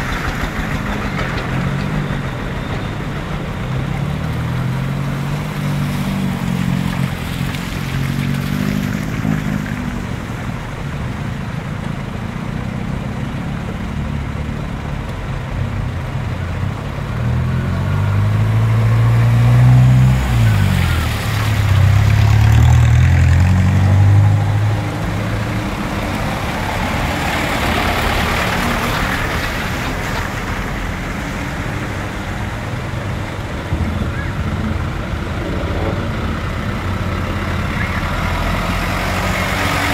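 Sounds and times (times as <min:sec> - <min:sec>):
truck diesel engines: 0:00.0 - 0:39.9
water washing from wheels: 0:00.0 - 0:39.9.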